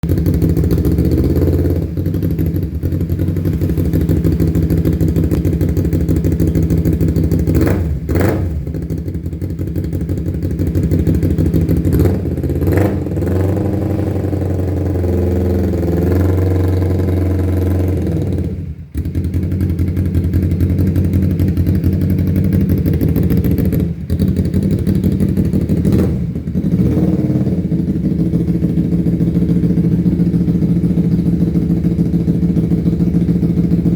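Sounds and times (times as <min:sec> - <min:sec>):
motorcycle engine chopping beat: 0:00.0 - 0:33.9.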